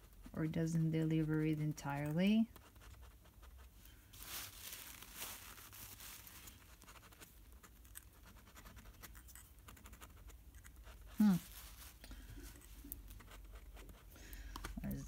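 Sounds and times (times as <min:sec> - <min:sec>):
pen nib scratching paper: 0:00.0 - 0:04.0, 0:06.6 - 0:15.0.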